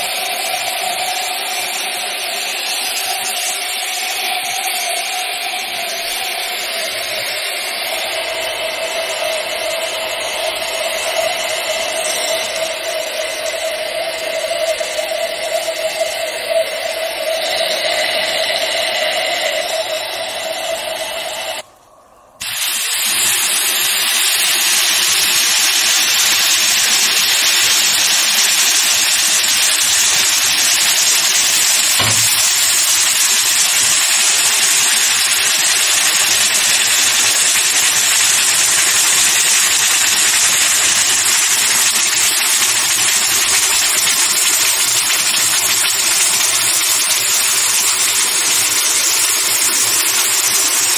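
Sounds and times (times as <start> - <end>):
banded hiss: 0.0 - 21.6, 22.4 - 50.9
hot metal hissing on ice: 0.0 - 21.6, 22.4 - 50.9.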